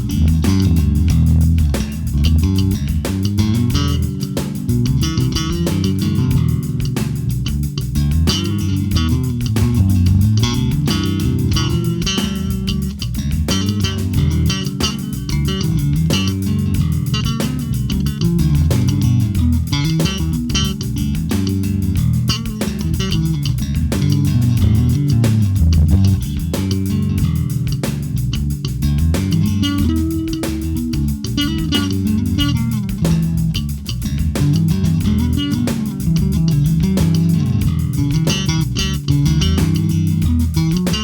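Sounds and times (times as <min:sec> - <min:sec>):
electric bass guitar: 0:00.0 - 0:41.0.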